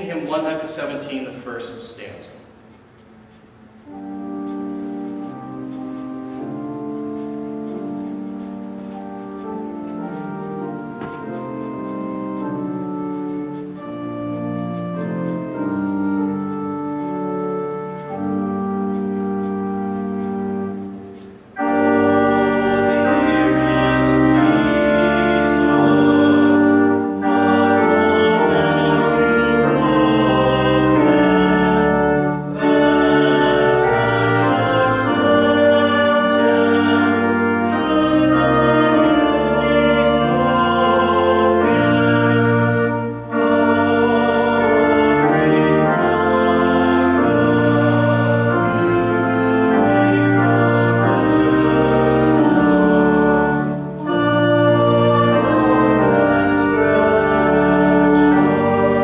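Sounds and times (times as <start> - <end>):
church organ playing a hymn: 0.0 - 59.0.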